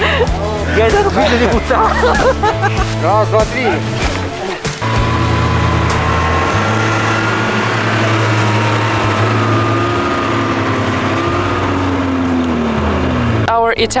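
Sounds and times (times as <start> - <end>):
snowmobile engine drone: 0.0 - 13.8
high engine whine: 0.0 - 14.0.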